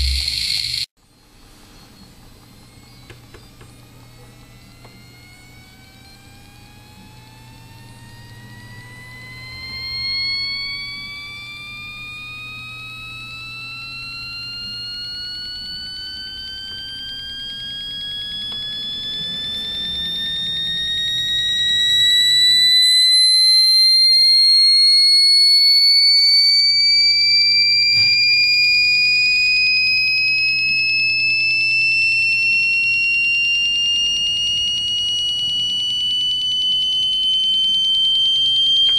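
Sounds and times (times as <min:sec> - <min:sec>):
electronic tone rising in pitch: 0:00.0 - 0:00.9, 0:02.6 - 0:38.9.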